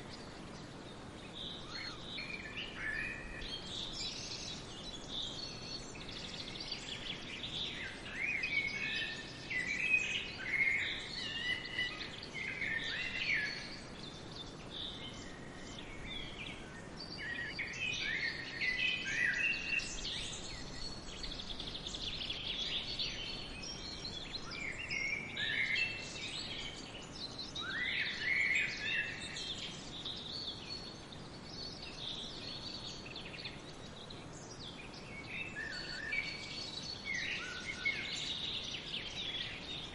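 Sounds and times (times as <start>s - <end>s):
faint forest ambience hiss: 0.0s - 39.9s
songbirds chirping and trilling: 0.0s - 39.9s.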